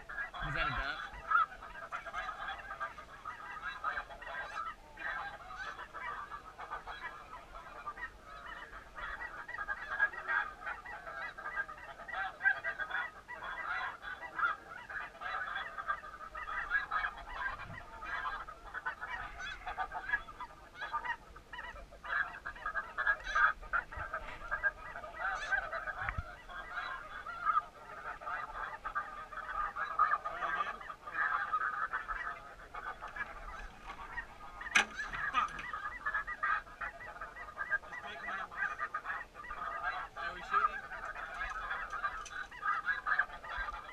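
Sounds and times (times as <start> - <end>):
geese honking chorus: 0.0 - 43.9.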